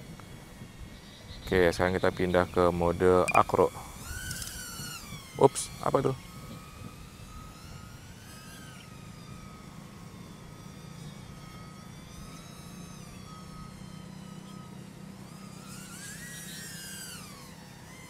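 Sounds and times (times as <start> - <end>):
drone propellers whining: 0.0 - 18.0
steady low hum: 0.0 - 18.0.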